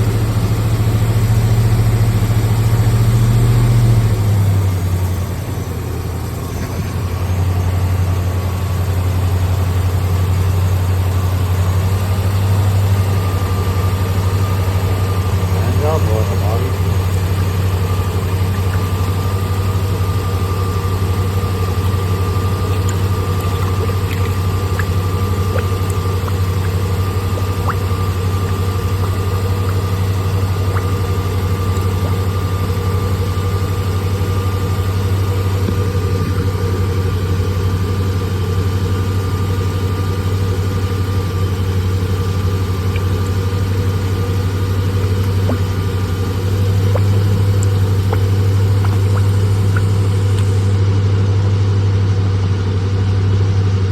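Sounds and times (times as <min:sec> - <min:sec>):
faint steady whine: 0:00.0 - 0:51.0
car engine idling: 0:00.0 - 0:53.0.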